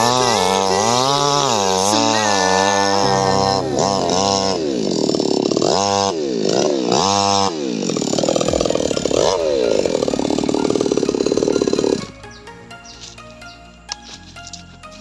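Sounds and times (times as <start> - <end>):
chainsaw revving: 0.0 - 12.2.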